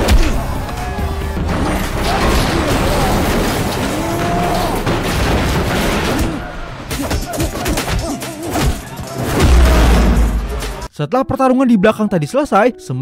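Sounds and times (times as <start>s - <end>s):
heavy blows and crashes: 0.0s - 10.9s
action film music: 0.0s - 13.0s.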